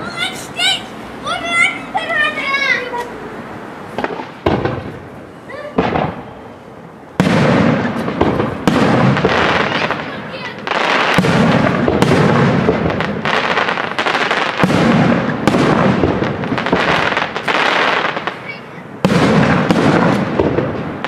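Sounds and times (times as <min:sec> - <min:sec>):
firework bangs: 0:03.8 - 0:21.0.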